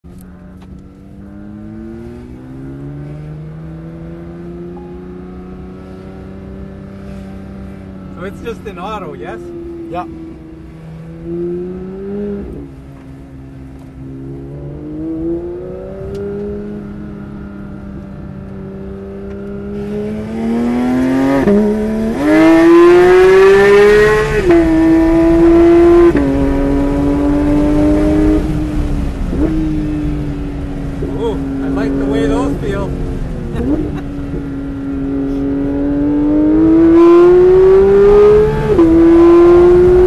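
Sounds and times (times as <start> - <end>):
car engine accelerating: 0.1 - 40.0.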